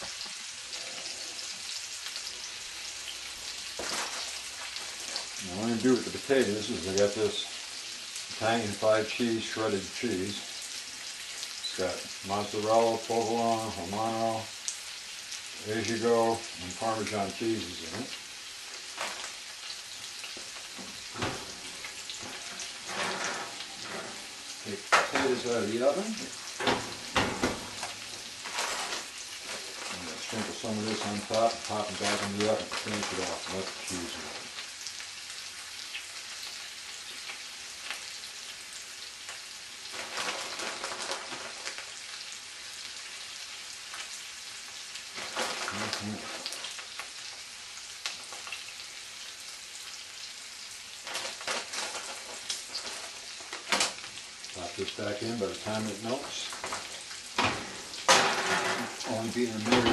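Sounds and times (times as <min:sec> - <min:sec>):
steak sizzling in a frying pan: 0:00.0 - 0:59.9.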